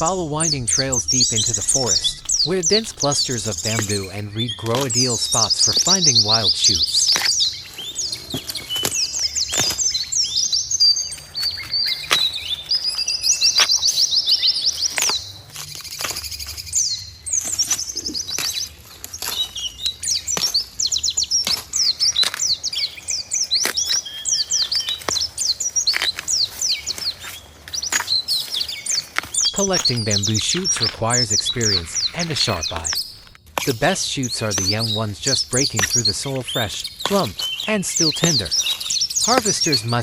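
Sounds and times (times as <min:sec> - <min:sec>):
forest birds singing: 0:00.0 - 0:15.3, 0:19.6 - 0:40.0.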